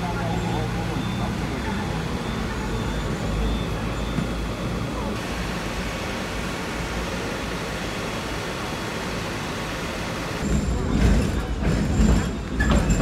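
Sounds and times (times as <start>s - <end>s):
electric tram rumbling: 0.0s - 13.0s
street traffic: 0.0s - 13.0s.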